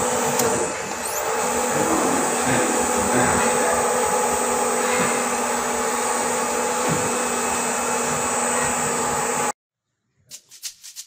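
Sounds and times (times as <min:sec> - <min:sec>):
electric motor hum and whine: 0:00.0 - 0:09.6.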